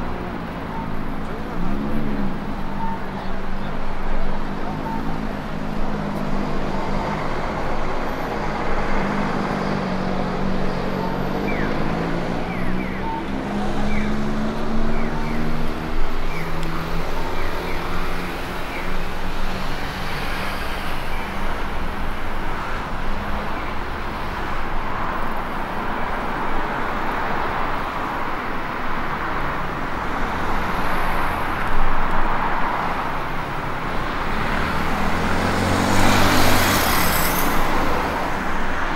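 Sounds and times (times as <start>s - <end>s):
steady roadway hum: 0.0s - 38.9s
vehicles passing: 0.0s - 38.9s.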